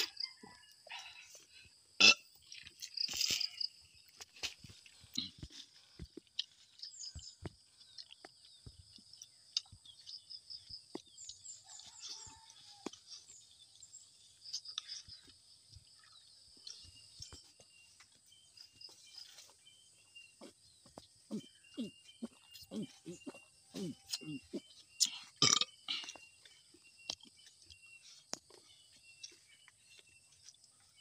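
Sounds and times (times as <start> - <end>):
birds chirping: 0.0 - 31.0
soft chewing: 2.4 - 31.0.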